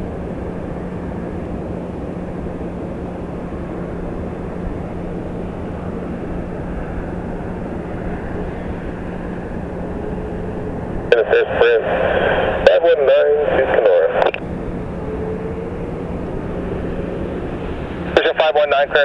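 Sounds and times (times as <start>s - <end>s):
constant low hum: 0.0s - 19.0s
jet aircraft drone: 0.0s - 19.0s.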